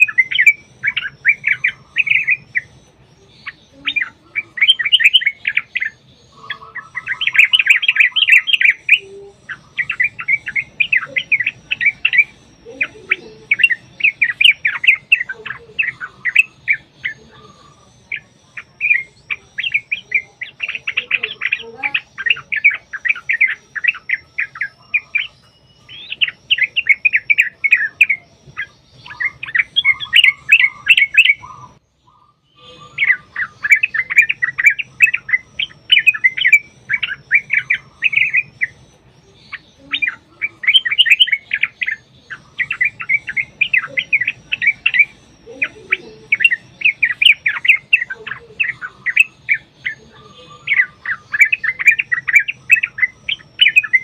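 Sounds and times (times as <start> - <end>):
bulbuls singing rapid chattering phrases: 0.0 - 54.0
faint high bird twittering: 0.0 - 54.0.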